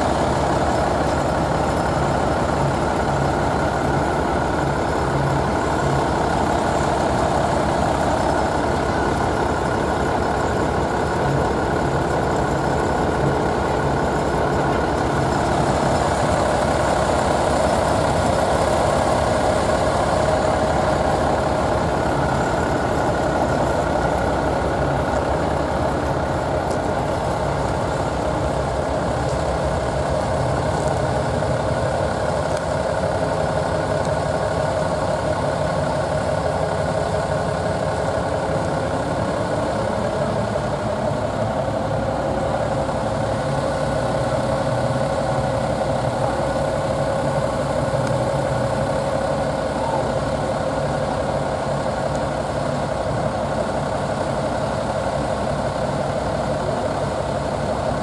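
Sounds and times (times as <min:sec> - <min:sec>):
large engine idling: 0:00.0 - 0:58.0.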